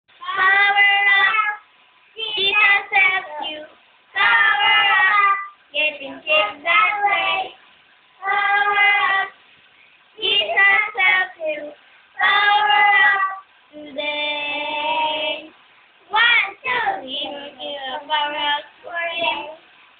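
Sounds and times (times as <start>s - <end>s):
young girl singing: 0.1s - 7.6s, 8.2s - 9.4s, 10.2s - 19.8s.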